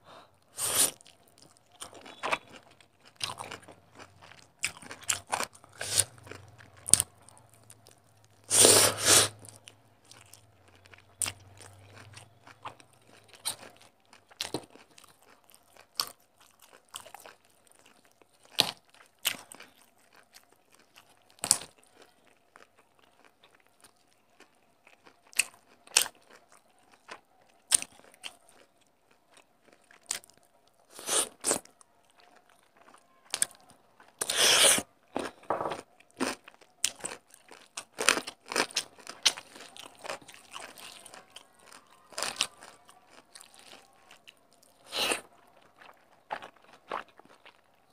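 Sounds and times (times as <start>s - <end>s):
crunchy biting: 0.6s - 23.9s, 29.3s - 47.8s
wet chewing and smacking: 0.9s - 8.5s, 9.4s - 47.9s.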